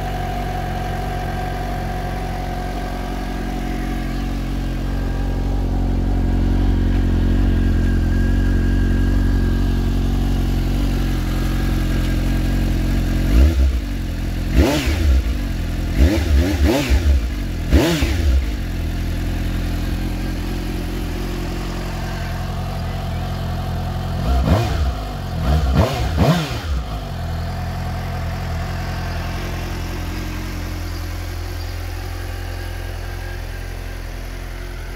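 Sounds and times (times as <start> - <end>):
motorcycle engine idling: 0.0 - 34.9
motorcycle throttle blips: 0.0 - 34.9.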